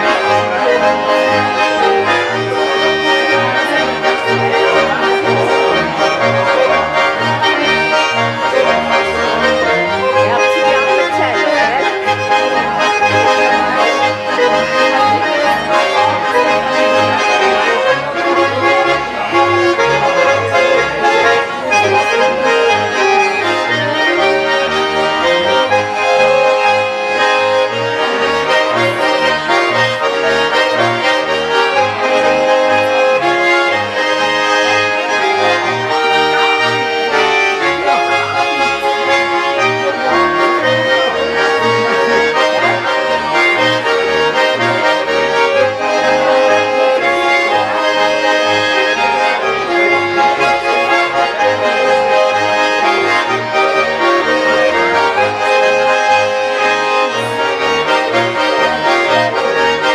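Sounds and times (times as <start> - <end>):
button accordions playing folk music: 0.0 - 59.9
plucked double bass: 0.0 - 59.9.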